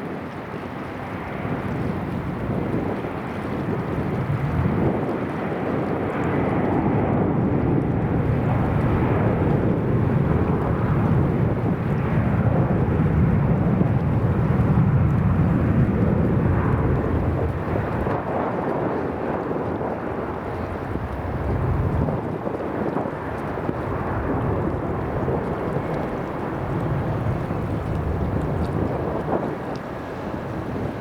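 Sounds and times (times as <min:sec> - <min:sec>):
jet engines deep rumble: 0:00.0 - 0:31.0.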